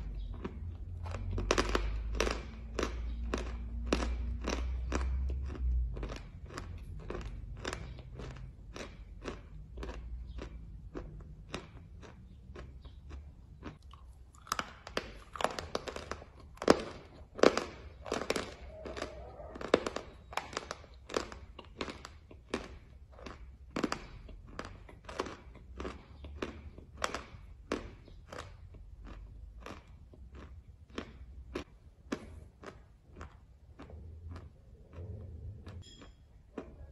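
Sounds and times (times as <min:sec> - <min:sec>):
crunchy chewing: 0:00.0 - 0:36.9.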